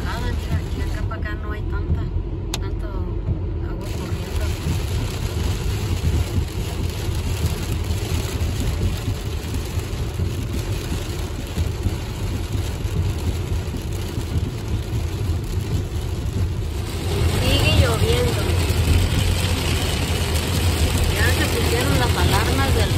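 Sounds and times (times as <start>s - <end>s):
car driving on a wet road: 0.0s - 22.9s
heavy rain on a car roof: 0.0s - 22.9s.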